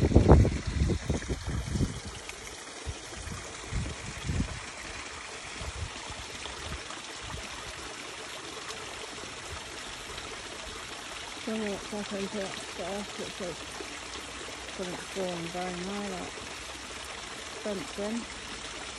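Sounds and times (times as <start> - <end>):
stream trickling: 0.0 - 18.9.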